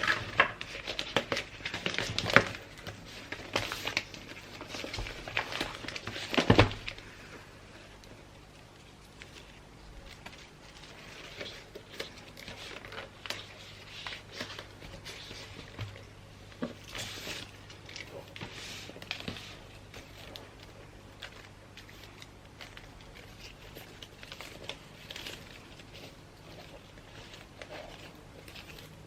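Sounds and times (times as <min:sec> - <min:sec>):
wrapping paper rustling: 0:00.0 - 0:29.0.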